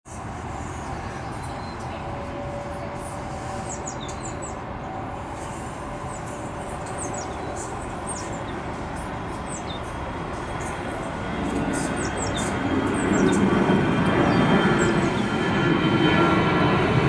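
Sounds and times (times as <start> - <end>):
jet engines rumbling: 0.1 - 17.0
birds chirping: 0.6 - 15.8.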